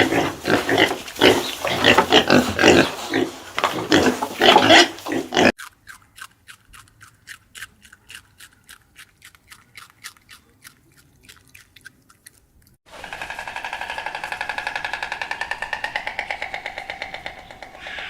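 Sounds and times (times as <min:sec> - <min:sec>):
pig grunting and squealing: 0:00.0 - 0:12.0, 0:12.9 - 0:18.0.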